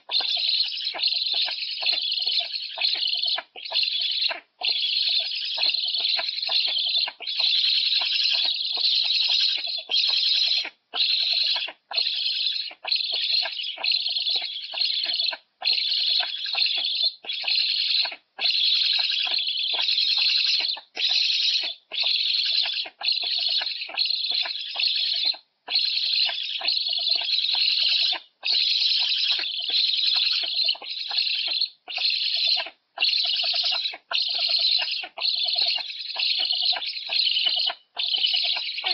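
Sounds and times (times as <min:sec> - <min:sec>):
young storks begging calls: 0:00.0 - 0:38.9.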